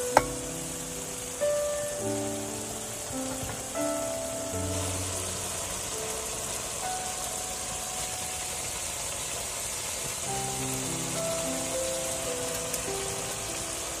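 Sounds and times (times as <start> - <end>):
slow background music: 0.0 - 9.0, 10.3 - 14.0
broth simmering in a wok: 0.0 - 14.0.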